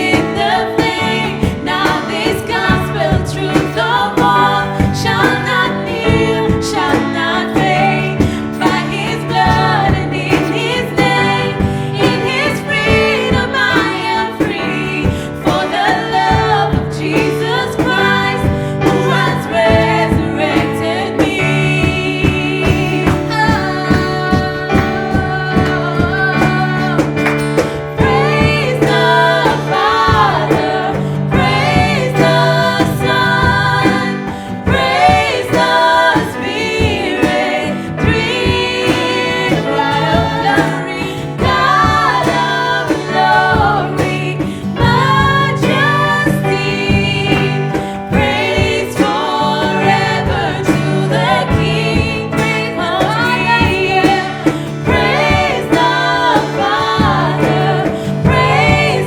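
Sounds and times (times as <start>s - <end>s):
instrumental backing with beat: 0.0s - 59.0s.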